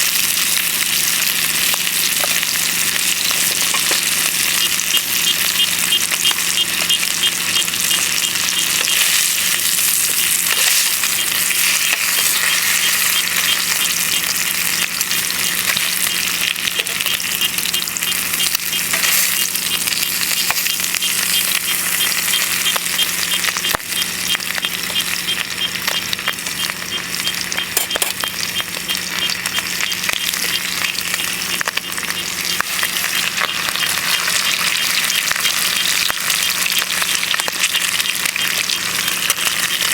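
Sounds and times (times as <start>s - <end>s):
bacon and eggs sizzling in a pan: 0.0s - 39.9s.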